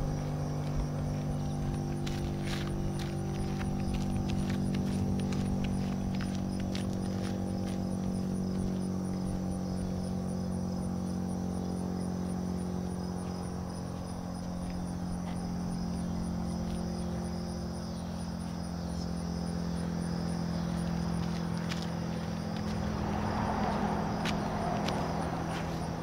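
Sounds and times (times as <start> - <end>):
siren droning tone: 0.0 - 26.0.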